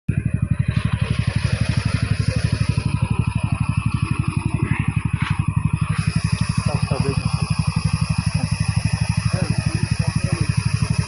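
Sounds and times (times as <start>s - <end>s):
engine idling with low thudding: 0.1s - 11.0s.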